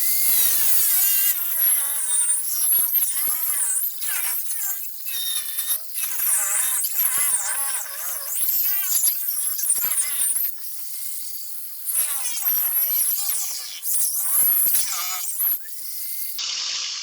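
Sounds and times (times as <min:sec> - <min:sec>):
power tool cutting: 0:00.0 - 0:16.4.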